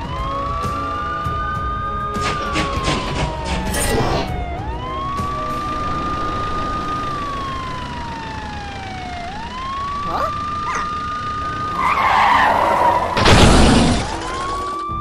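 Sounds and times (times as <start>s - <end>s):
police car siren wailing: 0.0s - 15.0s.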